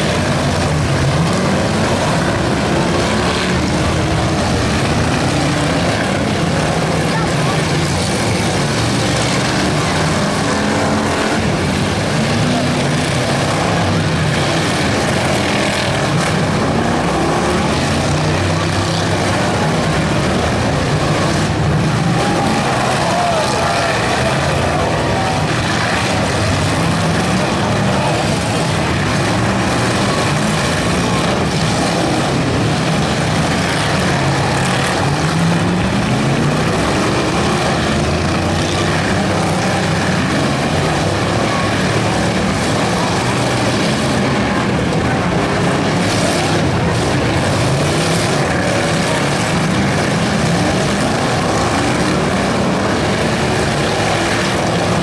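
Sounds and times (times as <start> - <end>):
stock car engines racing: 0.0 - 55.0.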